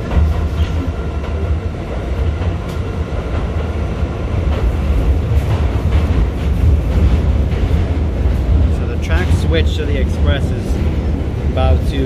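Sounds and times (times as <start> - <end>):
subway car rumbling in tunnel: 0.0 - 12.0
wheels clicking on rails: 0.0 - 12.0.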